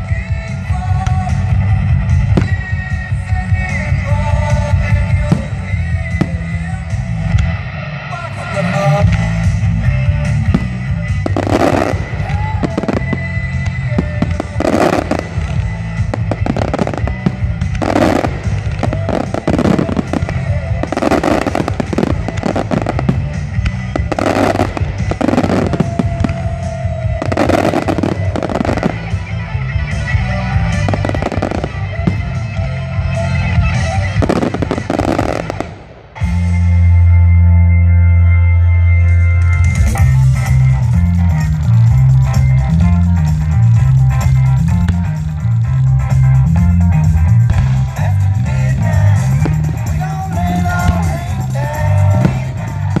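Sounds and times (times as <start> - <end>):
background music: 0.0 - 53.0.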